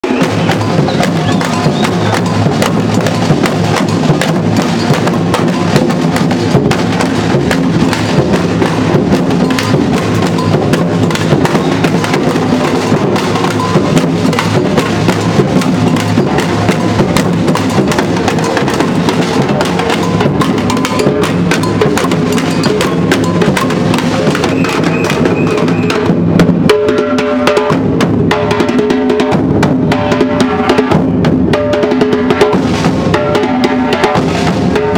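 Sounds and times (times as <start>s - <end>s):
street drum band playing: 0.0s - 34.9s.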